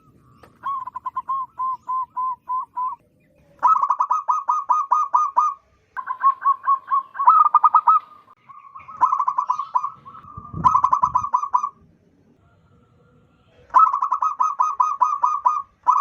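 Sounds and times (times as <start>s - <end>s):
dove cooing: 0.0s - 11.8s, 12.4s - 16.0s.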